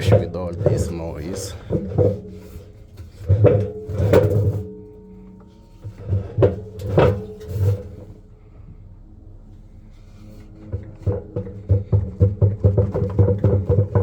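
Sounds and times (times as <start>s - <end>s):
washing machine drum banging: 0.0s - 8.1s, 10.7s - 14.0s
steady hum: 0.0s - 12.6s.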